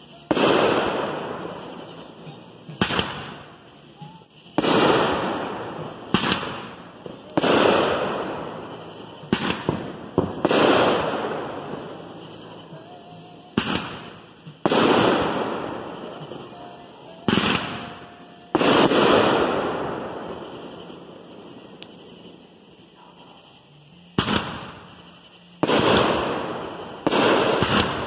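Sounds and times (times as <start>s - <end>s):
fireworks bursting with crackling: 0.0s - 28.0s.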